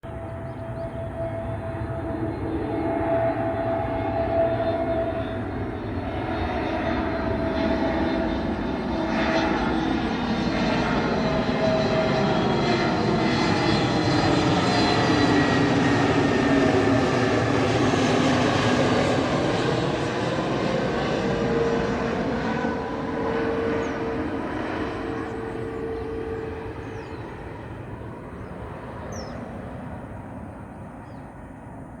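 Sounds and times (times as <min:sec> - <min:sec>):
jet airliner passing: 0:00.0 - 0:32.0.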